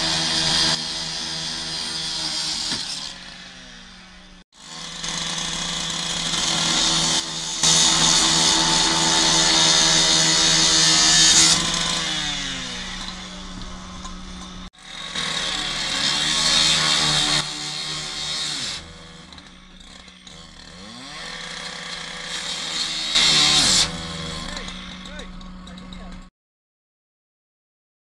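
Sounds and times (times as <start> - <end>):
power saw revving: 0.0 - 25.8.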